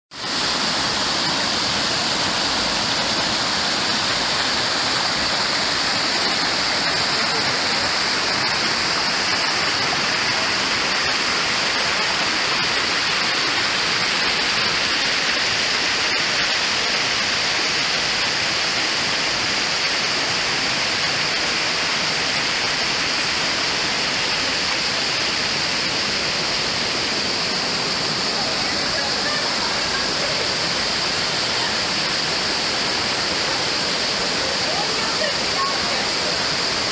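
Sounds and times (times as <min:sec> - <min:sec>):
stream rushing over stones: 0:00.1 - 0:36.9.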